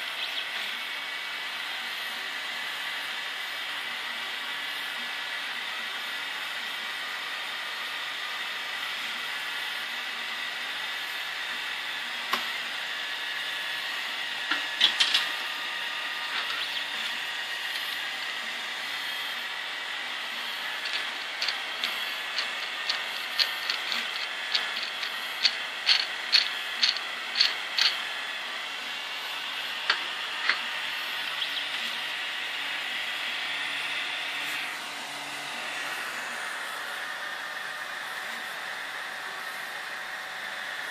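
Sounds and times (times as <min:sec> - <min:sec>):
printer fans and motors whirring: 0:00.0 - 0:40.9.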